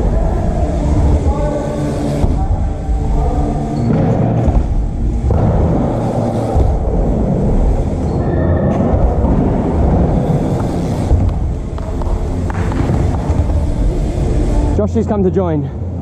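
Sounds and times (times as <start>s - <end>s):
bike tyres rumbling on concrete: 0.0s - 14.8s.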